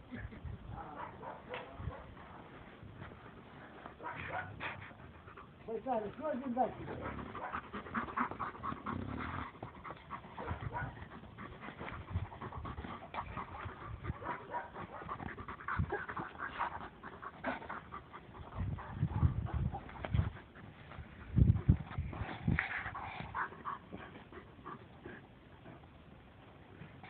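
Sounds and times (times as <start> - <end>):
dog panting: 0.2 - 27.0.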